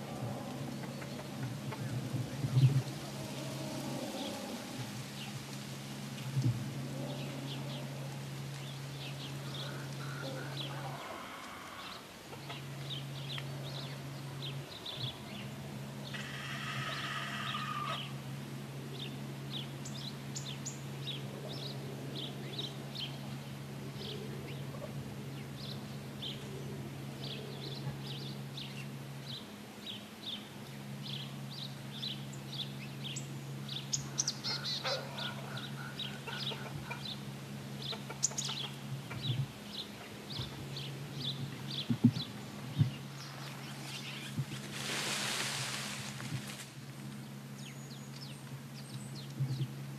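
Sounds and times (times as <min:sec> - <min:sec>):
longer bird calls: 0:00.0 - 0:49.8
birds chirping: 0:00.0 - 0:49.9
steady low hum: 0:00.0 - 0:49.9.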